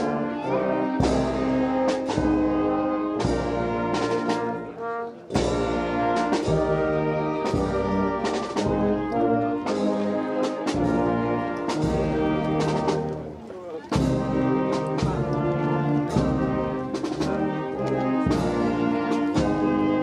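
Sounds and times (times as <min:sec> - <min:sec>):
brass band playing march: 0:00.0 - 0:20.0.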